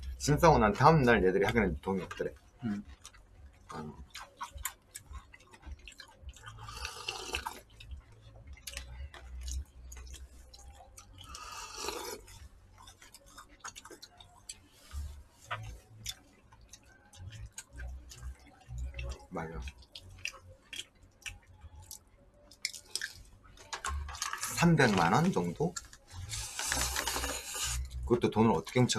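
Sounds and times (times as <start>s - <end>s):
chewing: 1.4s - 28.9s.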